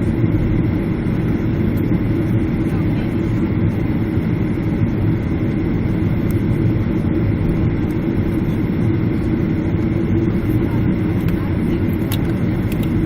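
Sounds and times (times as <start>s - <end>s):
jet engine rumble inside cabin: 0.0s - 13.0s.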